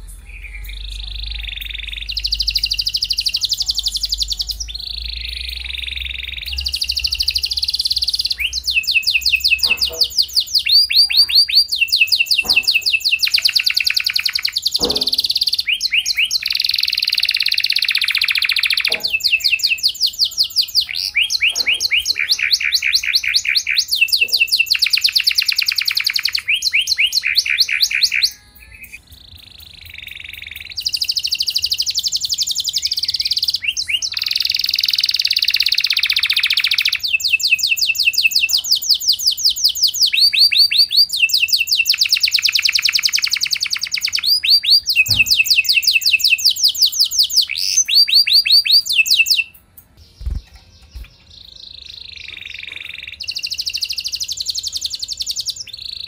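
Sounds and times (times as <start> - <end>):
canary singing rolling trills: 0.0 - 56.0.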